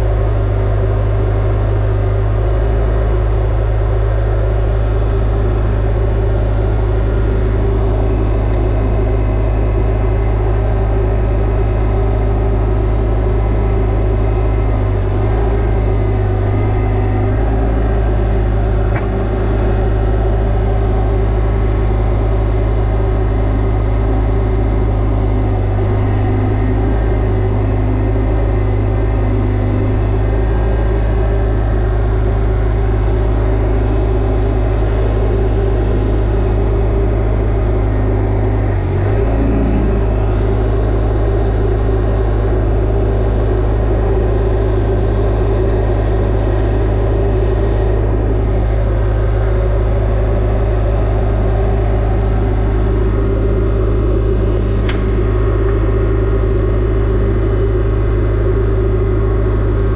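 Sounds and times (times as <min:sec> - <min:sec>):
machine humming with deep drone: 0:00.0 - 0:59.9.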